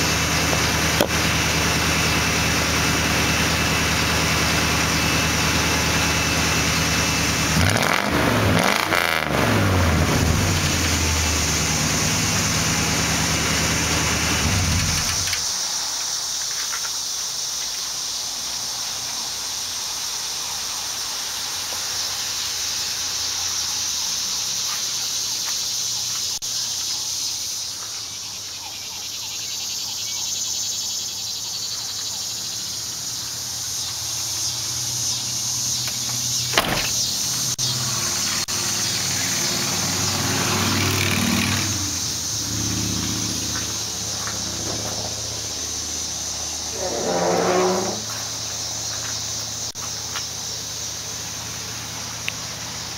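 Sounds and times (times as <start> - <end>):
truck engine idling and revving: 0.0 - 16.2, 18.5 - 52.9
faint outdoor background: 0.0 - 52.9.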